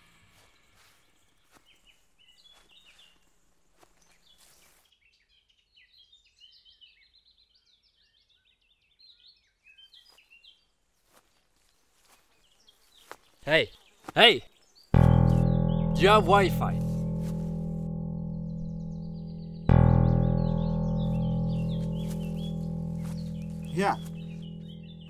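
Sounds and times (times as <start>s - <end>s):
small birds chirping: 0.0s - 17.7s, 18.3s - 25.0s.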